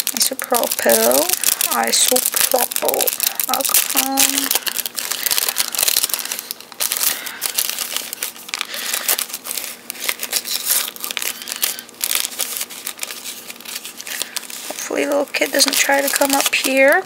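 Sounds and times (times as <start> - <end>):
wipe packet crinkling: 0.0 - 17.0.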